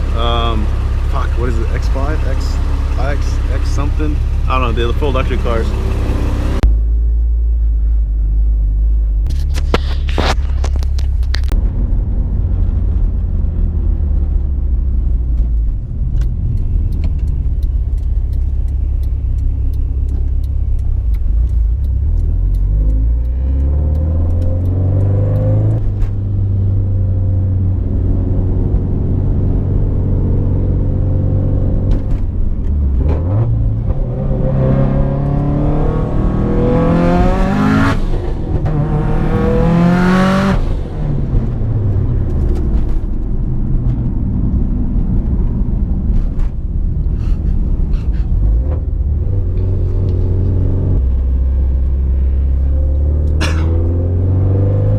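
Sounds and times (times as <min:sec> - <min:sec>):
car engine accelerating: 0:00.0 - 0:54.9.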